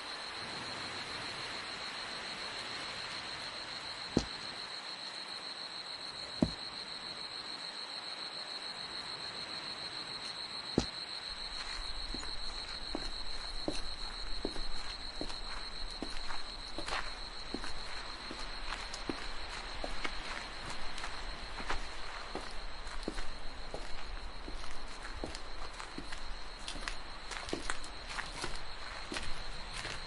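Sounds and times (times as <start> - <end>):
insect trill: 0.0 - 30.0.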